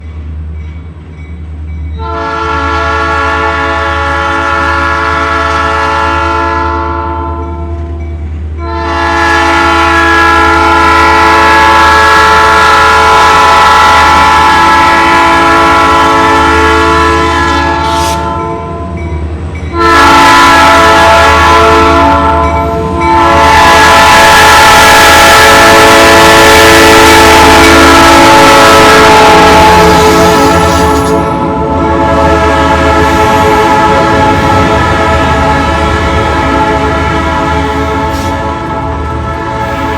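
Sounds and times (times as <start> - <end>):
locomotive air horn blasts: 2.0 - 7.8, 8.6 - 19.0, 19.7 - 39.9.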